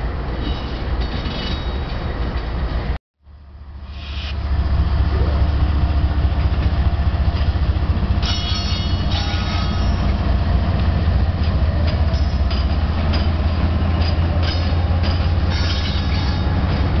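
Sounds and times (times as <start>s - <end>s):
locomotive engine rumble: 0.1s - 17.0s
steel wheels squealing on rails: 0.2s - 2.7s, 3.8s - 6.6s, 7.4s - 17.0s.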